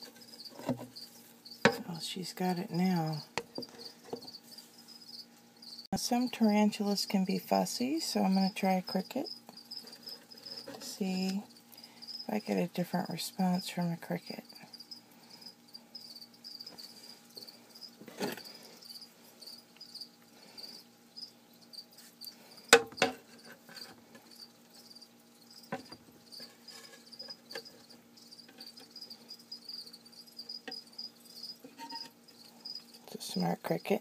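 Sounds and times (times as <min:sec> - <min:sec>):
crickets chirping: 0:00.0 - 0:02.0, 0:02.8 - 0:06.3, 0:07.8 - 0:34.0.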